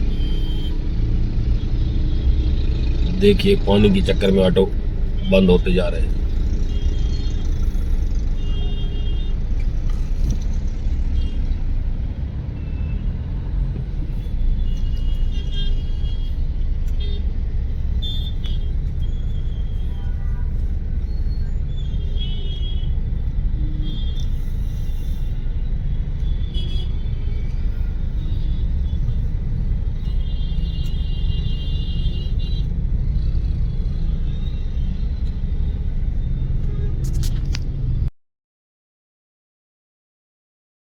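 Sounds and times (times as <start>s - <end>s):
idling vehicle engines rumbling: 0.0s - 38.1s.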